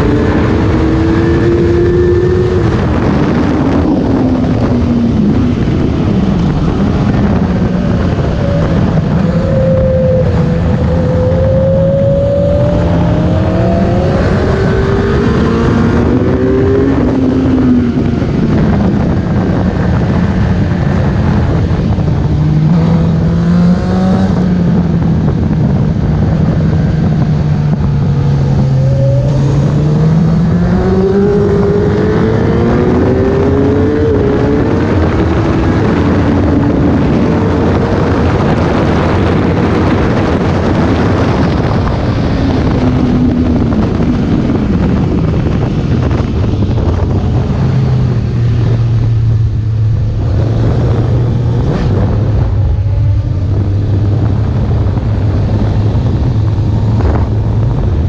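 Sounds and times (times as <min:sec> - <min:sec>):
motorcycle engine at speed: 0:00.0 - 0:58.0
wind rush: 0:00.0 - 0:58.0.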